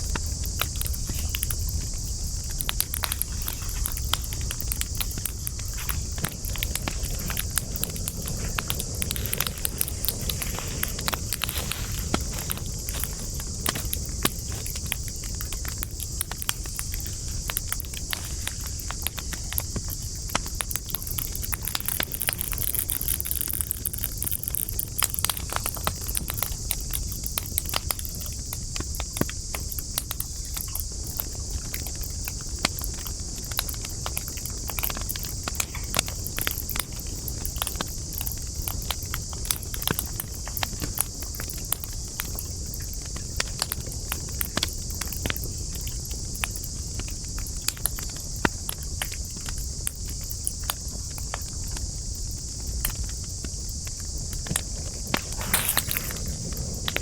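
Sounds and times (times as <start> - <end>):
campfire crackling: 0.0 - 57.0
steady high hiss: 0.0 - 57.0.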